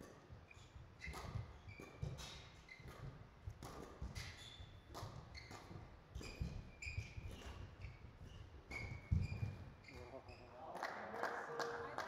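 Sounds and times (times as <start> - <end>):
shoes squeaking on court floor: 0.0 - 10.7.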